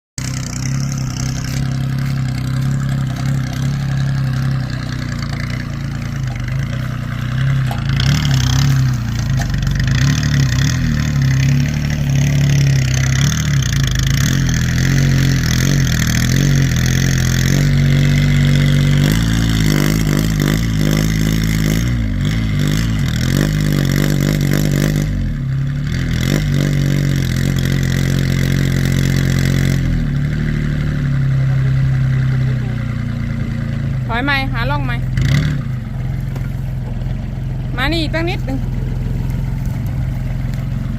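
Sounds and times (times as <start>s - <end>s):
small diesel engine revving: 0.2s - 40.9s.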